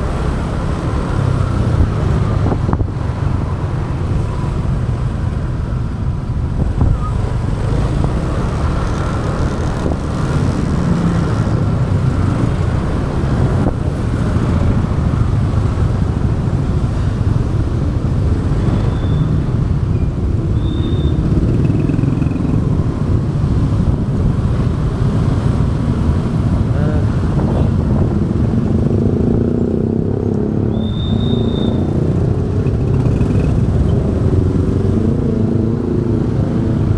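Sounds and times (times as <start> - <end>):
wind rumble on microphone: 0.0 - 21.8, 22.4 - 30.8
surrounding traffic: 0.0 - 36.9.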